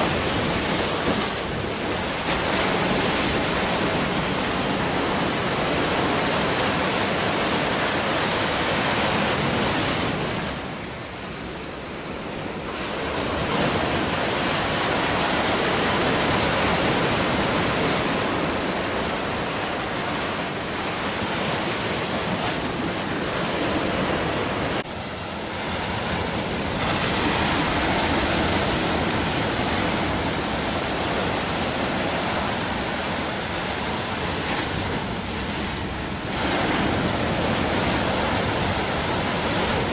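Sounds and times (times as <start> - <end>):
waves breaking on rocky shore: 0.0 - 39.9.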